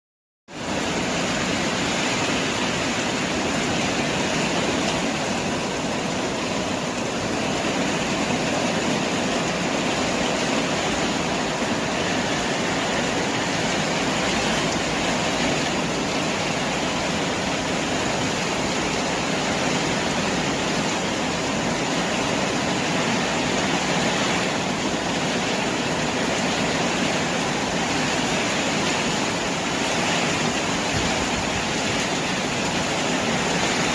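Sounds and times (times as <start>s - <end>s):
wind-driven rain downpour: 0.5s - 33.9s.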